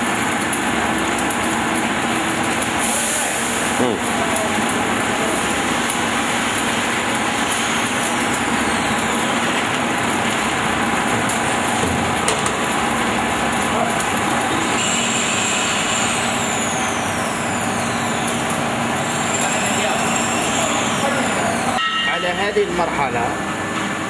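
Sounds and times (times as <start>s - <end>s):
factory machinery running: 0.0s - 24.0s.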